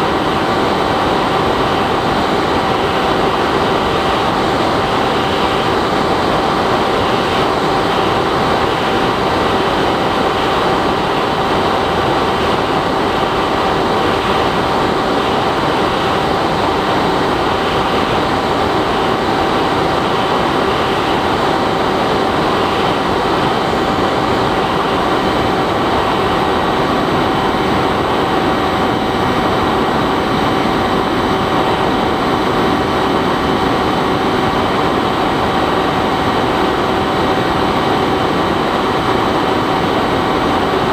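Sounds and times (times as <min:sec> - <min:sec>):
electric motor and propeller whine: 0:00.0 - 0:40.9
loud wind rush: 0:00.0 - 0:40.9.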